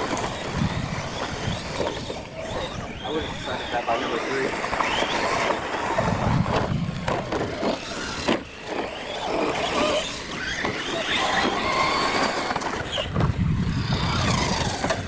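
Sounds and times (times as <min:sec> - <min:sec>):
toy truck motors whining: 0:00.0 - 0:15.0
tyres rushing on dirt: 0:00.0 - 0:15.0.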